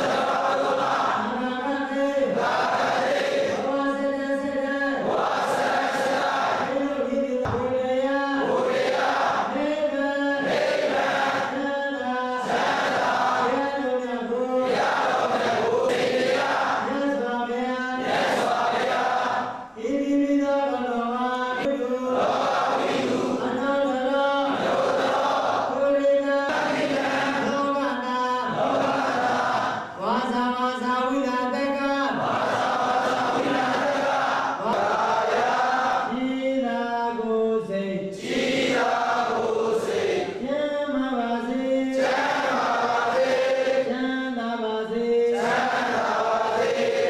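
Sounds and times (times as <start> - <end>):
group chanting: 0.0 - 19.8, 21.5 - 30.4, 32.0 - 36.4, 38.0 - 40.5, 41.4 - 47.0.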